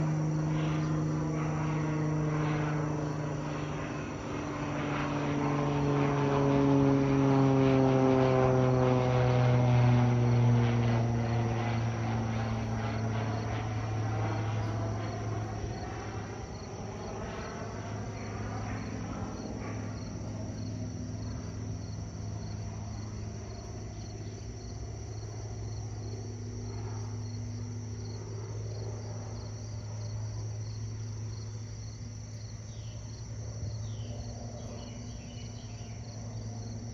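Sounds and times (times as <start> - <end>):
crickets chirping: 0.0 - 36.9
propeller plane passing overhead: 0.0 - 36.9.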